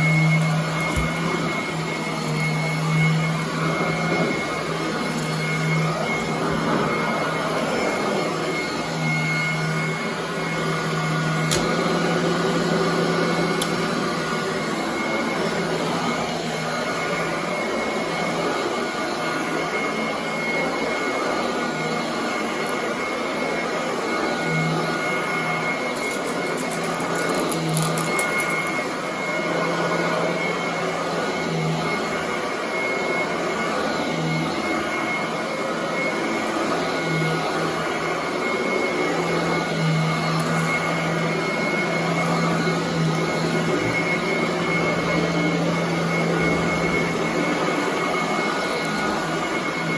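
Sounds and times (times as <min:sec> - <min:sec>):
vacuum cleaner running on carpet: 0:00.0 - 0:49.9.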